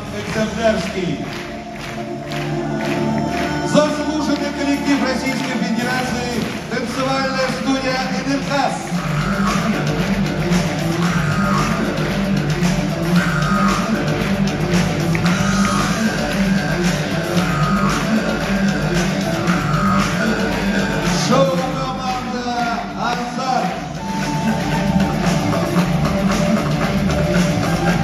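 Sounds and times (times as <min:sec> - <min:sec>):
loud music with singing: 0:00.0 - 0:28.0.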